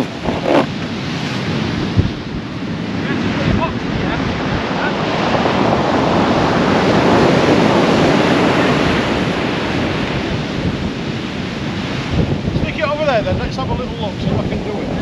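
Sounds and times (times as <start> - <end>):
waves breaking on sand beach: 0.0 - 15.0
wind buffeting microphone: 0.0 - 15.0.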